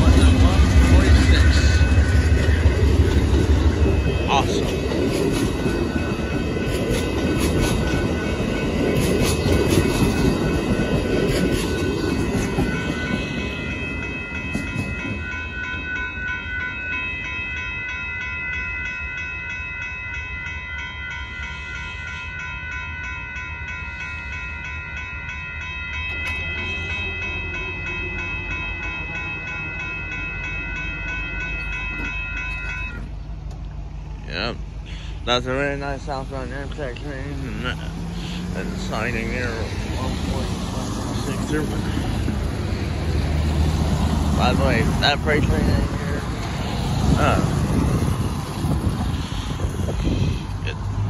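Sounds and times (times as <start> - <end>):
train wheels rumbling and clacking: 0.0 - 18.1, 25.6 - 51.0
crossing warning bells ringing: 0.0 - 51.0.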